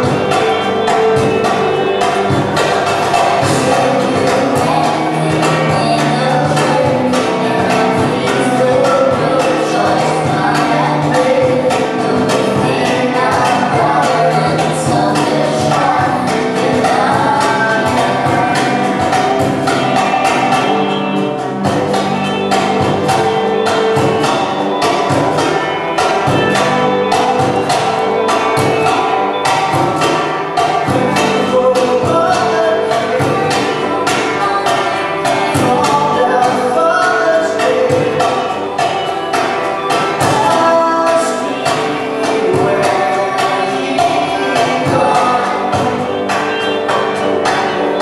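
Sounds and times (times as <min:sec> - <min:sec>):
several voices singing: 0:00.0 - 0:48.0
steady percussive beat: 0:00.0 - 0:48.0
sustained instrumental notes: 0:00.0 - 0:48.0.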